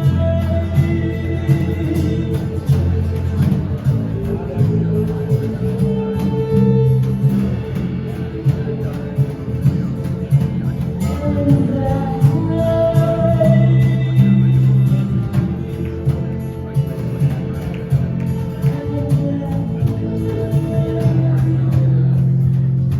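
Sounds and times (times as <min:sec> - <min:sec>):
live band led by guitar: 0:00.0 - 0:22.9.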